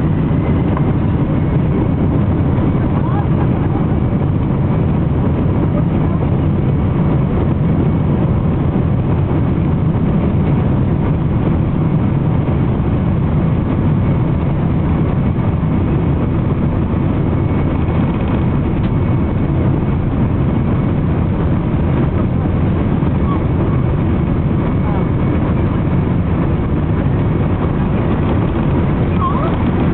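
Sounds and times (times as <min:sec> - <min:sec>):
airplane cabin engine hum: 0:00.0 - 0:29.9.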